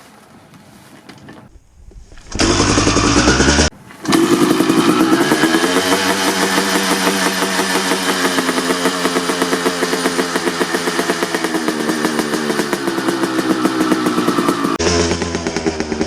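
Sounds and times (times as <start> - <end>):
motorcycle engine idling: 2.0 - 16.0.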